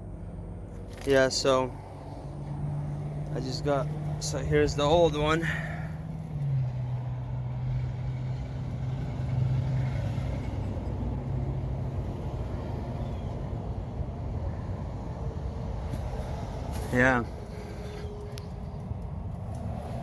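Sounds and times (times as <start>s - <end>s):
engine rumbling: 0.0s - 20.0s.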